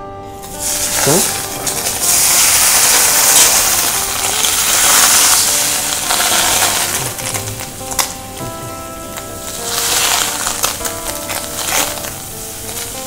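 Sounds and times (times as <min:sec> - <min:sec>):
butter sizzling in frying pan: 0:00.4 - 0:13.0.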